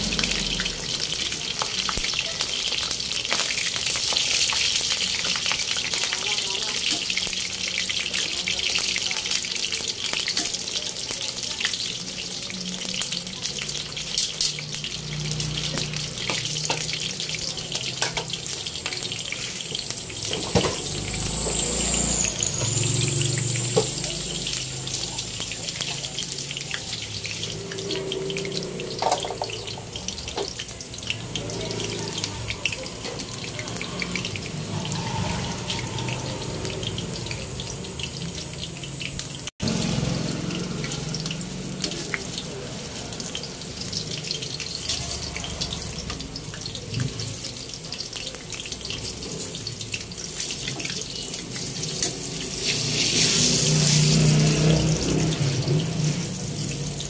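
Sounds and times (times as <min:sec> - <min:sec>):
eggplant deep-frying in oil: 0:00.0 - 0:57.0
oil crackling and popping: 0:00.0 - 0:57.0.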